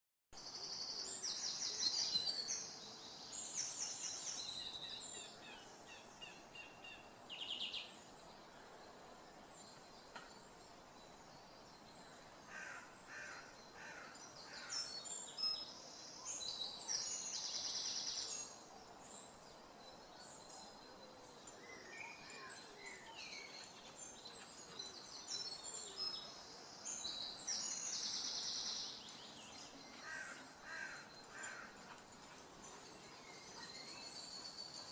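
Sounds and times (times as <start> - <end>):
faint outdoor background noise: 0.4 - 34.9.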